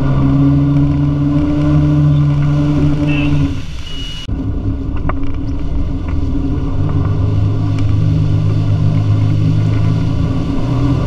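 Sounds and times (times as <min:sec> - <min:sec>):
boat engine running: 0:00.0 - 0:11.0
water rushing behind hull: 0:00.0 - 0:11.0.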